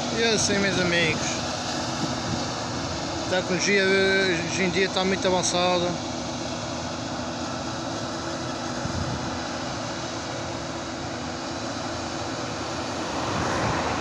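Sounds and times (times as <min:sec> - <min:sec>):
distant engine drone: 0:00.0 - 0:14.0.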